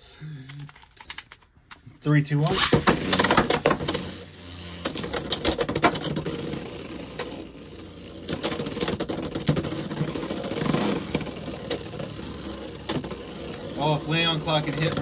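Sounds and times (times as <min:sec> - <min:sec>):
spinning tops whirring: 0:02.4 - 0:15.0.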